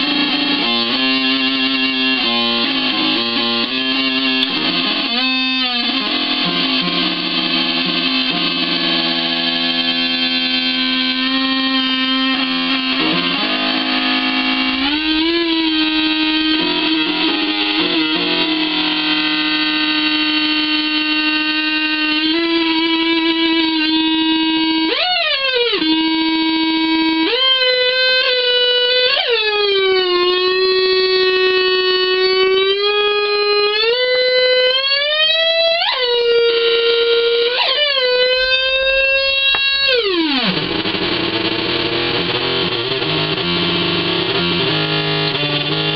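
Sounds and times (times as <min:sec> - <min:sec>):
buzzy synth-like fuzz tones: 0:00.0 - 0:45.9.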